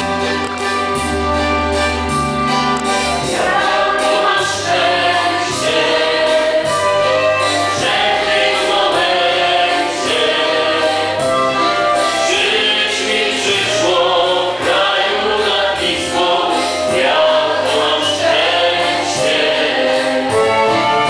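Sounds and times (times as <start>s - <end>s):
choir singing held chords: 3.1s - 21.0s.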